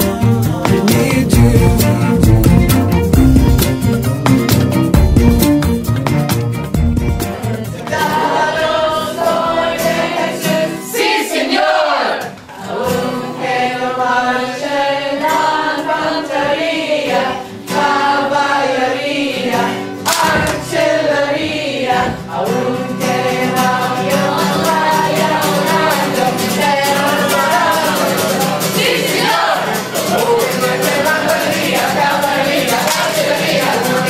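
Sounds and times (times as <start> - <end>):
crowd singing worship song: 0.0 - 2.2, 7.6 - 34.0
acoustic guitar: 0.0 - 34.0.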